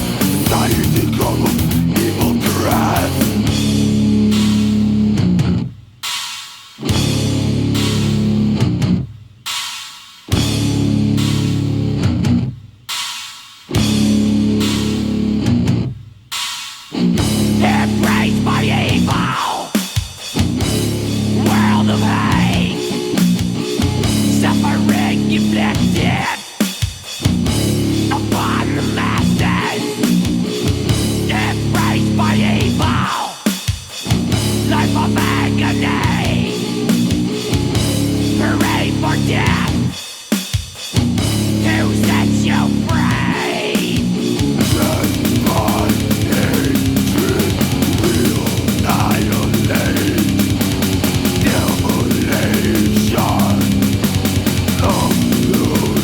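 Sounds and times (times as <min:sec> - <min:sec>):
distorted guitar riffing: 0:00.0 - 0:06.2, 0:06.8 - 0:09.1, 0:10.3 - 0:12.6, 0:13.7 - 0:40.1, 0:40.8 - 0:56.0
drums: 0:00.0 - 0:56.0.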